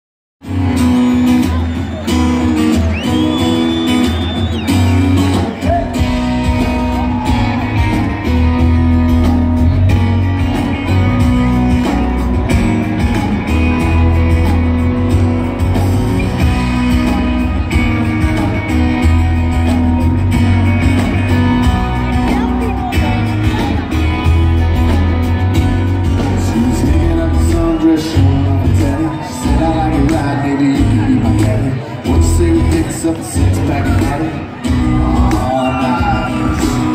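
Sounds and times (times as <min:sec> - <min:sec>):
live country band through pa: 0:00.4 - 0:36.9.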